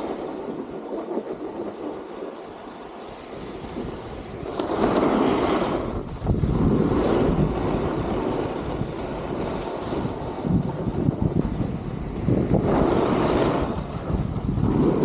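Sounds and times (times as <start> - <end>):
snowboard scraping over snow: 0.0 - 15.0
wind on microphone: 0.0 - 15.0.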